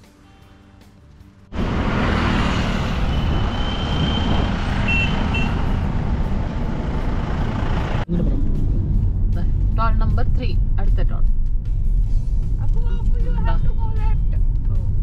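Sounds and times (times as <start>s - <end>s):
highway traffic rumble: 1.2s - 15.0s.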